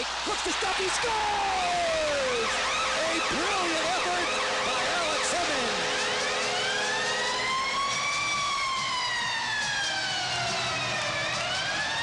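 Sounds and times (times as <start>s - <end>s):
crowd cheering and clapping: 0.0s - 10.1s
goal siren wailing: 0.0s - 12.0s.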